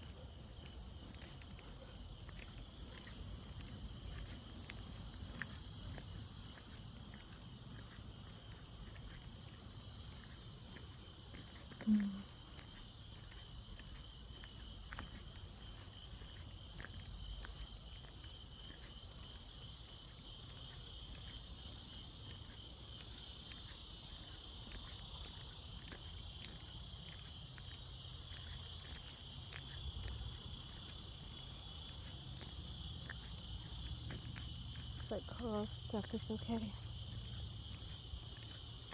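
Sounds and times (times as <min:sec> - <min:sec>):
insects buzzing: 0:03.0 - 0:38.9.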